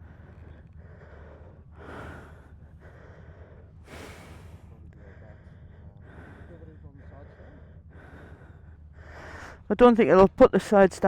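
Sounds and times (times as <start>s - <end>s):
person breathing heavily: 0.0s - 9.7s
steady low rumble: 0.0s - 11.0s.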